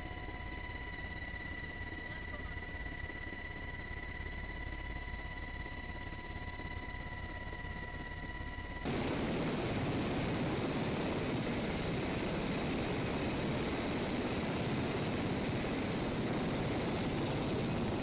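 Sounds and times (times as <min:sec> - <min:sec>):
helicopter turbine and rotor: 0:00.0 - 0:18.0.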